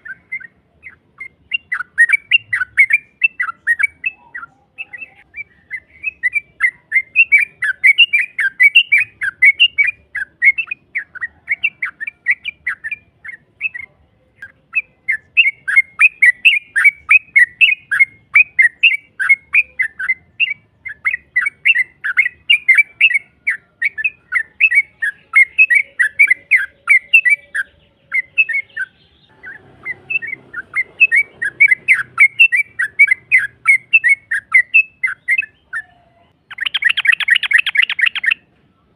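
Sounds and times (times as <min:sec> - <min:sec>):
bulbul chattering call: 0:00.0 - 0:38.5.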